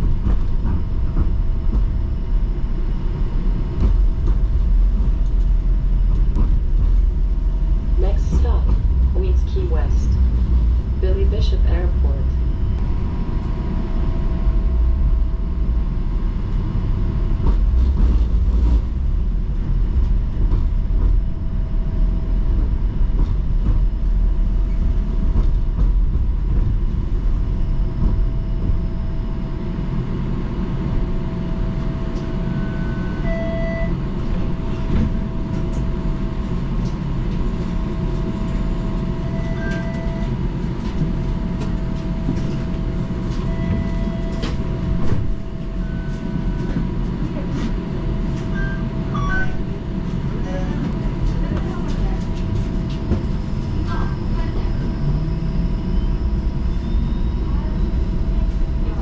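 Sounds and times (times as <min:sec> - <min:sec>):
streetcar rumble and electrical whine: 0:00.0 - 0:59.0.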